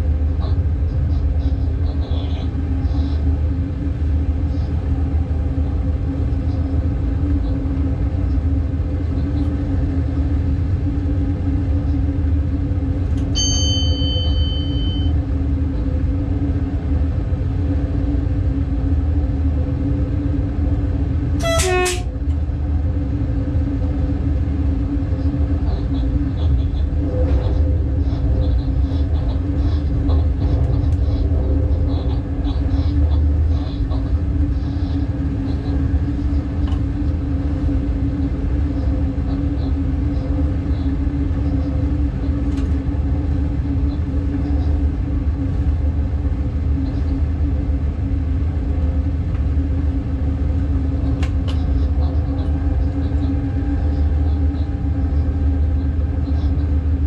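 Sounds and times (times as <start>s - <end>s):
constant hum: 0.0s - 57.0s
wheels rumbling on rail: 0.0s - 57.0s.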